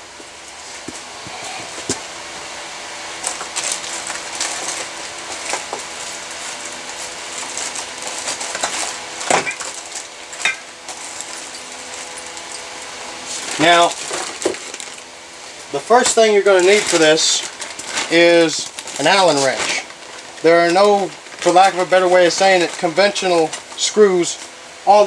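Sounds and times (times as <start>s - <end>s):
faint steady hum: 0.0s - 25.0s
rummaging among small hard objects: 3.2s - 24.4s.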